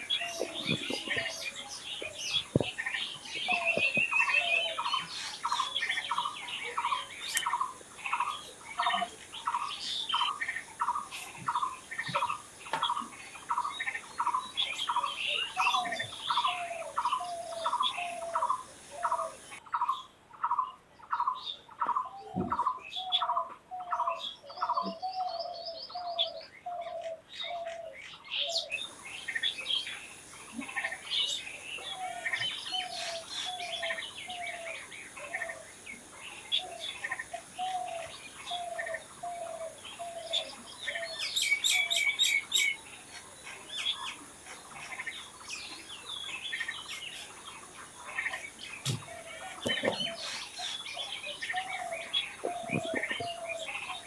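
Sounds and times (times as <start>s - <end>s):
birds calling and chirping: 0.0s - 54.0s.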